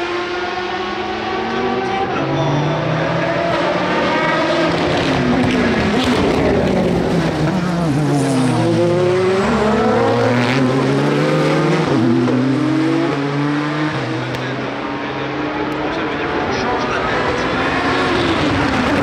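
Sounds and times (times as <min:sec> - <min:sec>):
race car engines passing at speed: 0:00.0 - 0:19.0.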